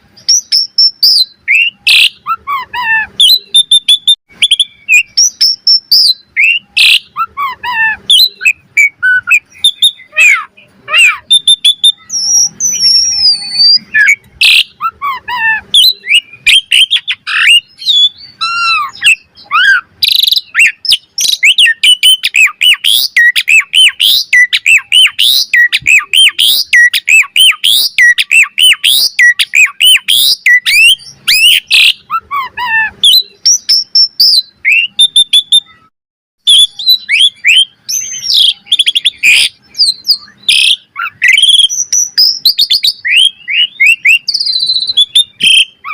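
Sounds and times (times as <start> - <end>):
starling singing varied song: 0.0 - 35.8, 36.5 - 45.9.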